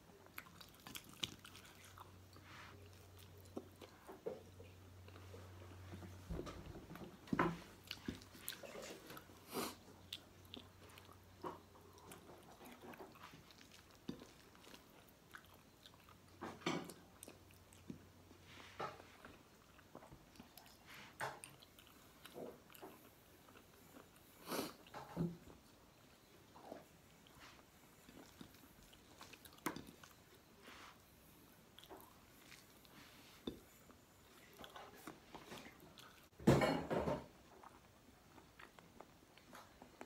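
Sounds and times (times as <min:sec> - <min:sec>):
person chewing and lip smacking: 0:00.1 - 0:06.1, 0:06.9 - 0:25.6, 0:26.2 - 0:36.3.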